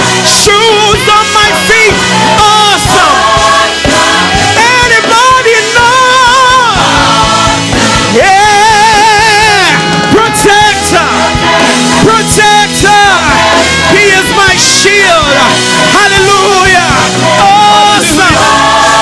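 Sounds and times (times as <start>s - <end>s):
instrumental accompaniment with beat: 0.0s - 19.0s
person singing with vibrato: 0.0s - 19.0s.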